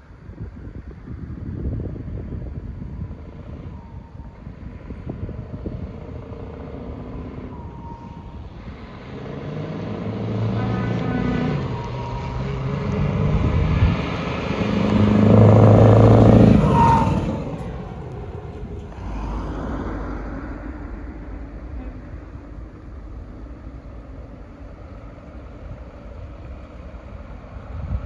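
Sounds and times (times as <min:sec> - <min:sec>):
heavy truck driving past: 0:02.9 - 0:28.0.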